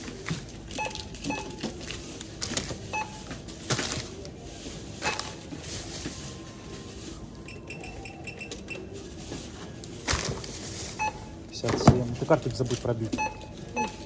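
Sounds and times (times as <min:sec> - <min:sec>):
groceries clinking and rustling: 0:00.0 - 0:14.0.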